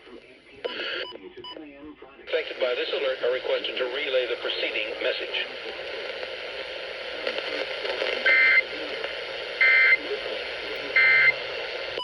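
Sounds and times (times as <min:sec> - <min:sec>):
faint talk: 0:00.0 - 0:12.0
radio broadcast hiss: 0:00.0 - 0:12.0.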